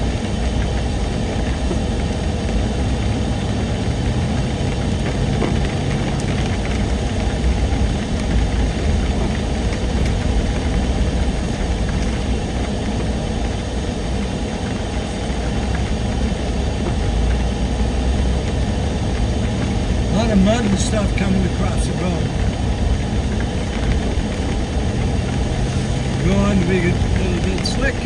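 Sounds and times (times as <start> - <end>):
car engine: 0.0 - 28.0
tyres on wet muddy road: 0.0 - 28.0.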